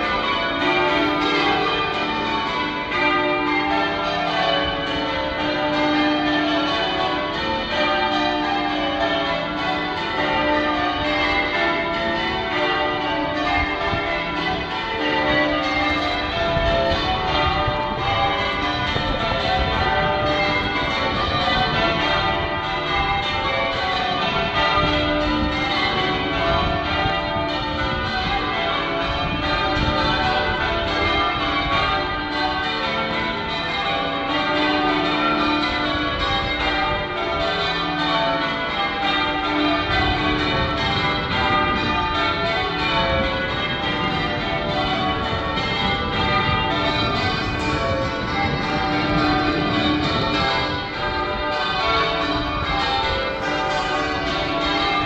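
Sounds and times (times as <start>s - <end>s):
church bells change ringing: 0.0s - 55.0s.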